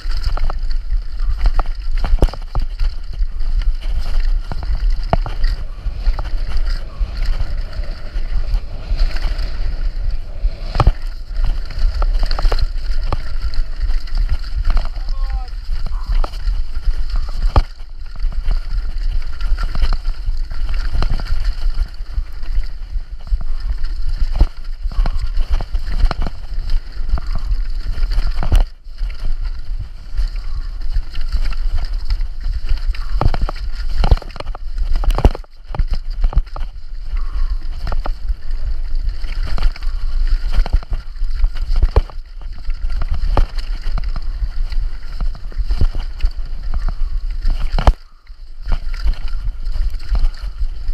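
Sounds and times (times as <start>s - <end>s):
bike rattling over rocks: 0.0s - 50.9s
bike rumble: 0.0s - 50.9s
wind buffeting microphone: 0.0s - 50.9s.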